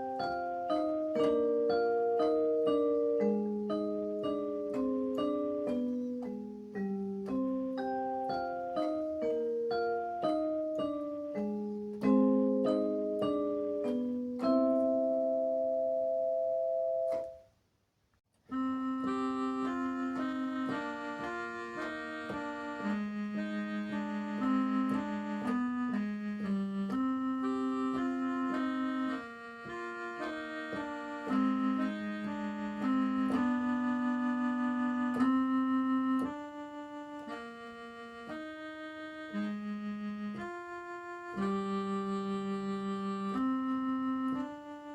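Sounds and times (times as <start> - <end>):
keyboard music: 0.0 - 17.5, 18.5 - 44.9.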